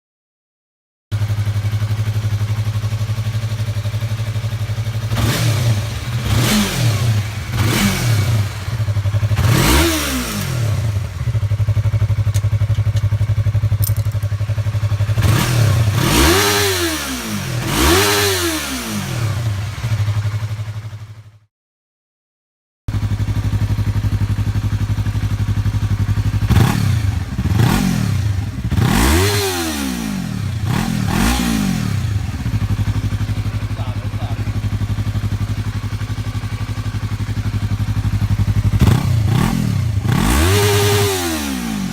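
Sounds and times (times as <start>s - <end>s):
motorcycle engine idling and revving: 1.1s - 21.5s, 22.9s - 41.9s.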